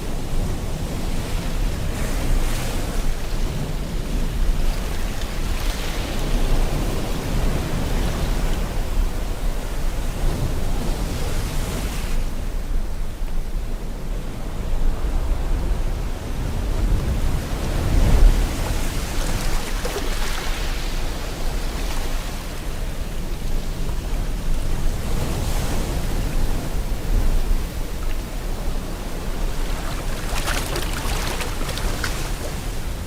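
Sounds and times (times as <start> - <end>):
ocean waves washing ashore: 0.0 - 33.0.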